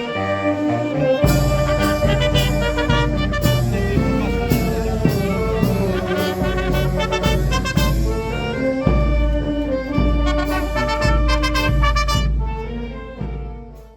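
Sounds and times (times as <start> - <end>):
brass band playing lively tune: 0.0 - 13.9.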